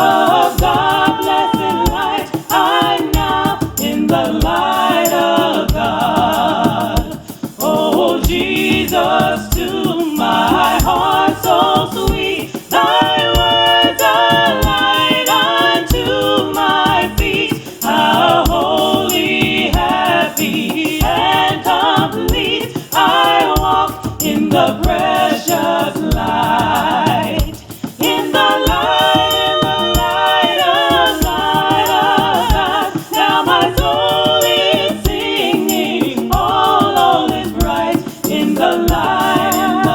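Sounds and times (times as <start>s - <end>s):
gospel choir singing: 0.0s - 39.9s
steady beat: 0.0s - 39.9s.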